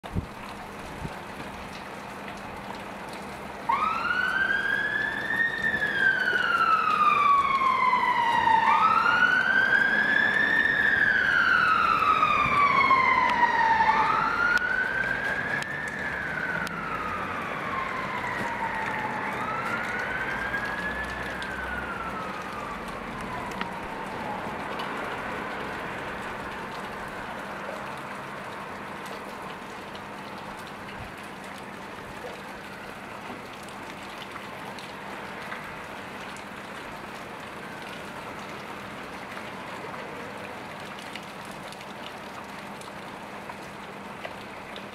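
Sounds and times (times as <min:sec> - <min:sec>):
rain hiss: 0:00.1 - 0:44.9
emergency siren wailing: 0:01.6 - 0:44.9.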